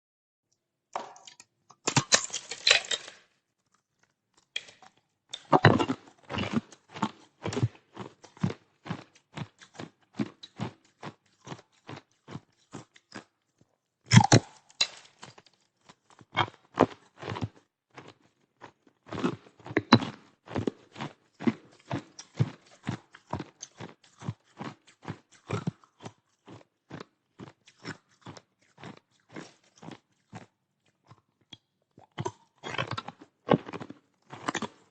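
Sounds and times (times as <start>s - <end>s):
ice being bitten and chewed: 1.0s - 34.9s.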